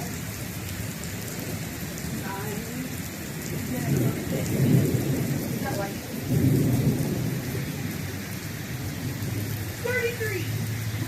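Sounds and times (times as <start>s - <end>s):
heavy rain: 0.0s - 11.0s
wind buffeting microphone: 1.1s - 11.0s.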